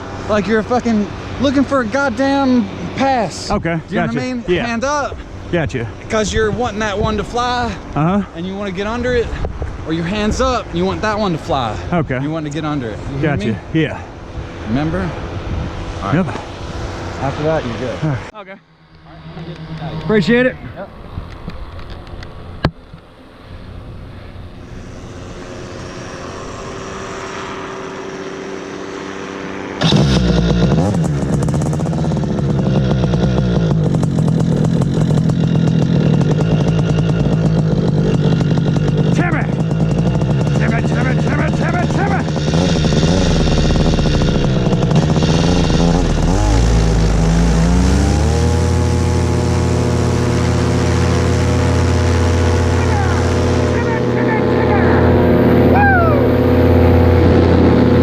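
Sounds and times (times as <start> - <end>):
paramotor engine: 0.0 - 58.0.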